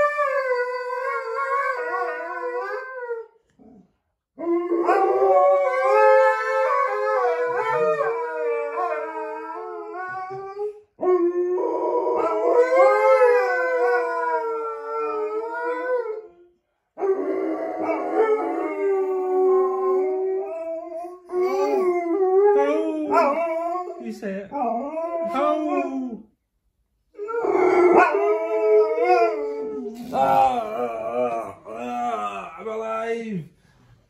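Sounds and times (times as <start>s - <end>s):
dogs howling: 0.0s - 3.8s, 4.4s - 26.3s, 27.2s - 32.1s.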